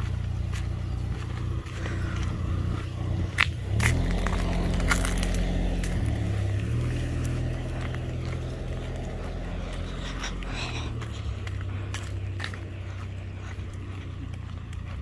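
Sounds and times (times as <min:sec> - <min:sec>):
mail truck engine pulling away: 0:00.0 - 0:15.0.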